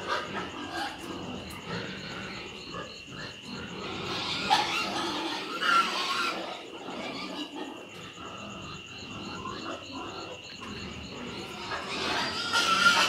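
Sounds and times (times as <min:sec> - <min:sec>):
rhythmic insect chirping: 0:00.0 - 0:13.0.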